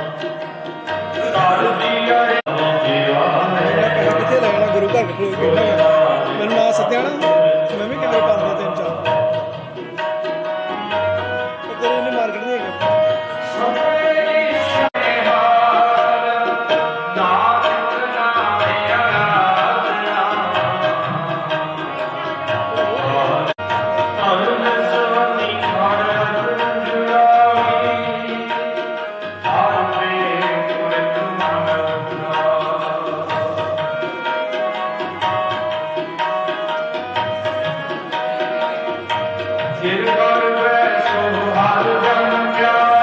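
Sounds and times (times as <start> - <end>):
tabla rhythm: 0.0 - 43.0.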